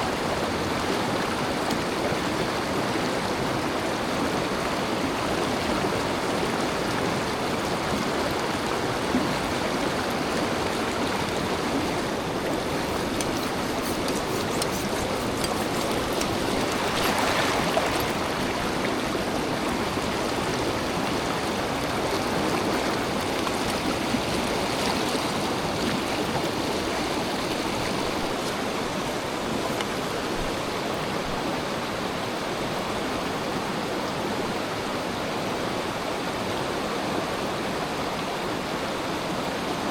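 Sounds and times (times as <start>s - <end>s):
mountain stream water rushing: 0.0s - 39.9s.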